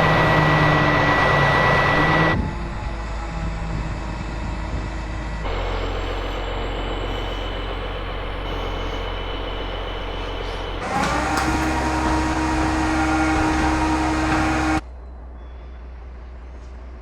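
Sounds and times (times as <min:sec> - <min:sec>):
lifting machine engine running: 0:00.0 - 0:14.8
steady machine whine: 0:00.0 - 0:14.8.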